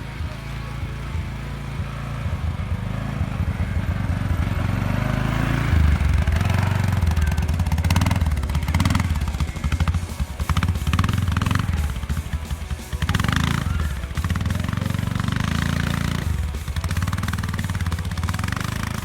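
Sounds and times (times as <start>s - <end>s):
atv engine throbbing: 0.0s - 19.0s.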